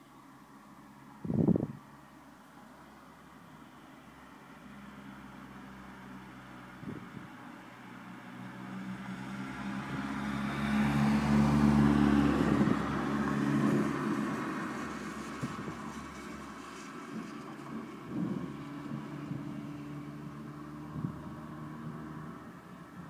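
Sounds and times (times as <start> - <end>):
car passing by: 0.0 - 23.0.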